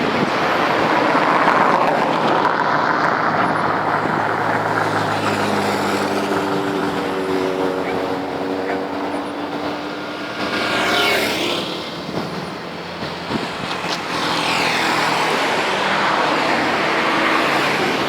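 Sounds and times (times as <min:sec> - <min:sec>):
vehicles passing by: 0:00.0 - 0:18.0.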